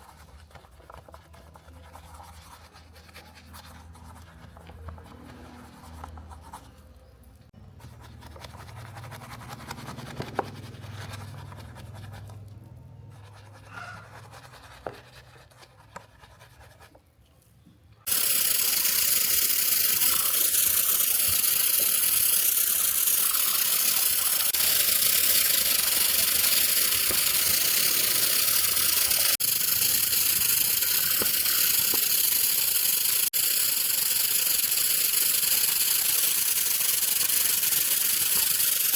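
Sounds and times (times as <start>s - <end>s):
brushing and scratching: 0.0s - 38.9s.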